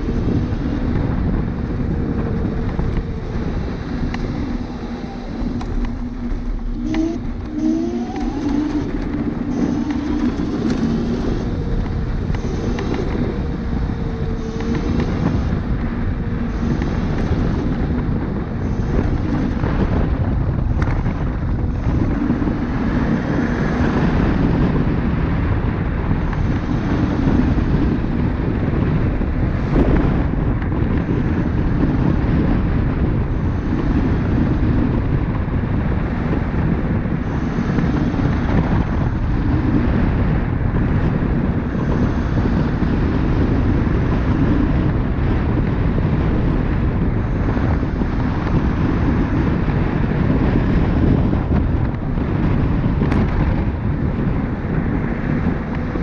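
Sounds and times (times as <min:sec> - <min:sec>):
scooter tyres rolling on asphalt: 0:00.0 - 0:56.0
wind buffeting microphone: 0:00.0 - 0:56.0.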